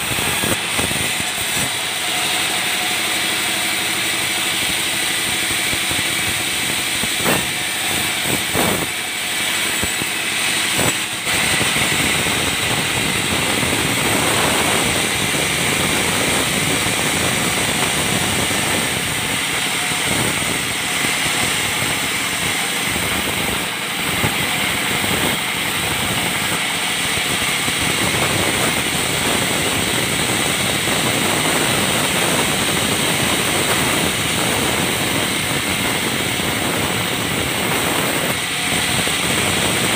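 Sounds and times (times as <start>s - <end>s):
diesel engine running: 0.0s - 39.9s
saw blade cutting wood: 0.0s - 39.9s.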